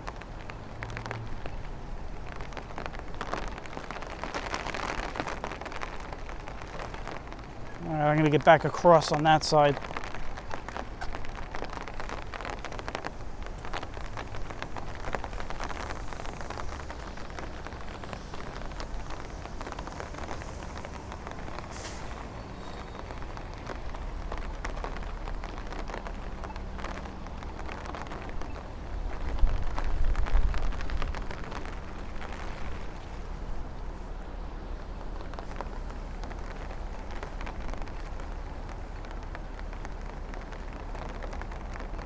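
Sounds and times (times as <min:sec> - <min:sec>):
city traffic: 0:00.0 - 0:42.0
rain drops ticking: 0:00.0 - 0:42.0.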